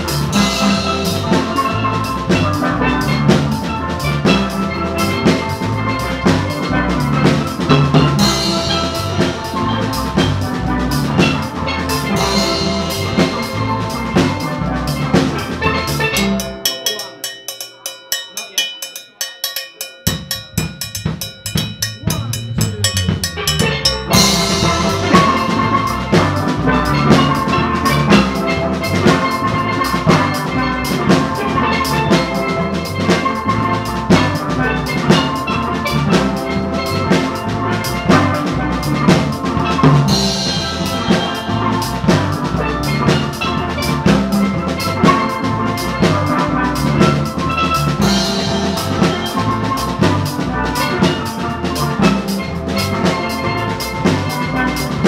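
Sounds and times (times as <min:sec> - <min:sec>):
steel drum band playing: 0:00.0 - 0:55.0.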